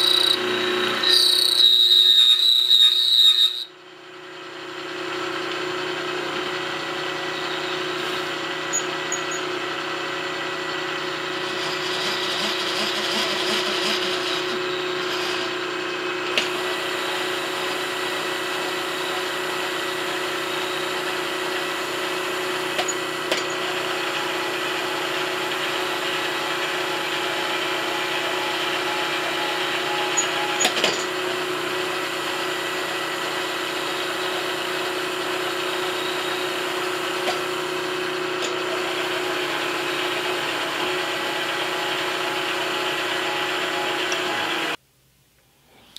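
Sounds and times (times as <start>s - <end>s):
end mill cutting metal: 0.0s - 3.6s, 5.3s - 44.8s.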